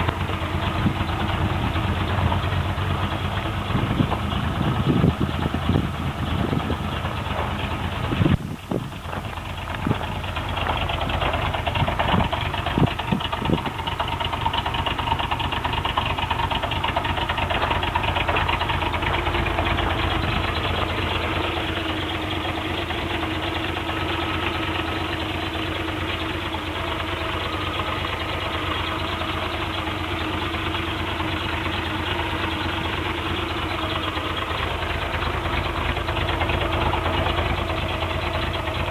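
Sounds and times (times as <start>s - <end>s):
four-cylinder engine idling: 0.0s - 38.9s.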